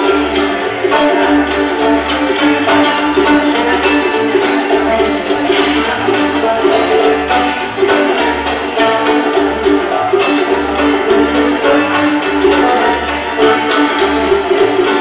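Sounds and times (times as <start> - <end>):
string band playing: 0.0 - 15.0.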